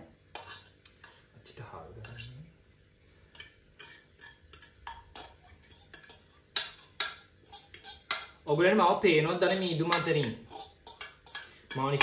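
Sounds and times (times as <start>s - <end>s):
fork clinking and scraping a pot: 0.3s - 1.3s, 2.0s - 2.5s, 3.3s - 12.0s.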